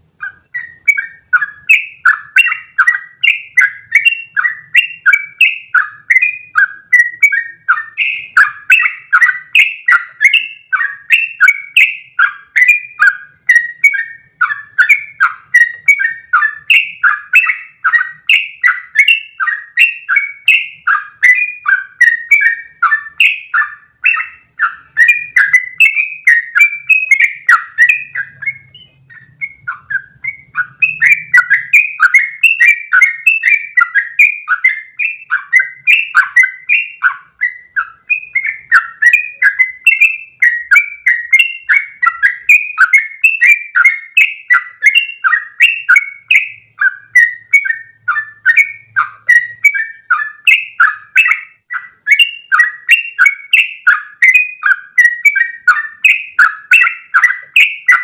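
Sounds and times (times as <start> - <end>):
bird singing bubbly notes: 0.0 - 58.0.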